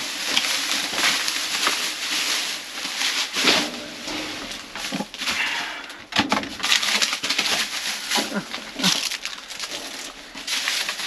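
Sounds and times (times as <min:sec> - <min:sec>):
plastic bags rustling: 0:00.0 - 0:11.0.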